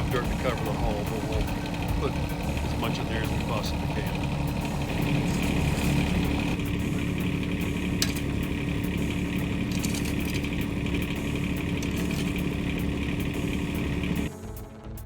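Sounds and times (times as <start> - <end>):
excavator engine running: 0.0 - 14.8.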